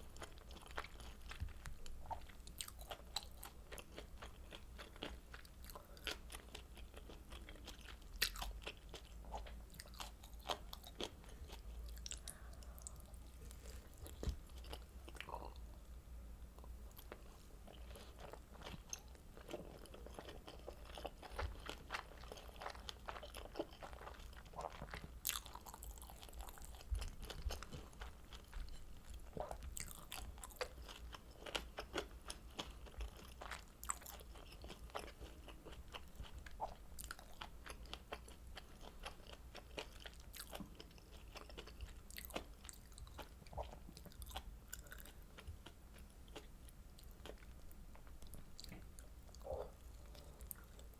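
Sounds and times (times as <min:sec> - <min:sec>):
chewing and biting food: 0:00.0 - 0:15.6, 0:16.9 - 0:50.9.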